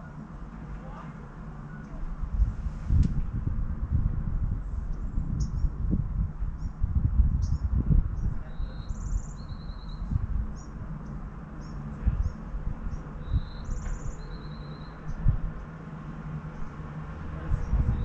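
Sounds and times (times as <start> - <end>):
small birds singing: 0.0 - 2.1, 4.8 - 18.0
low uneven rumble: 0.0 - 18.0.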